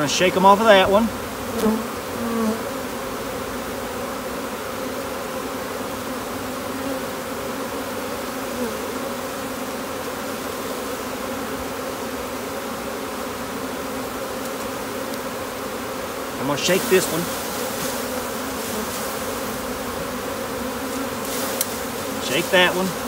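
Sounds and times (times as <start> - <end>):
bee swarm buzzing: 0.0 - 23.0.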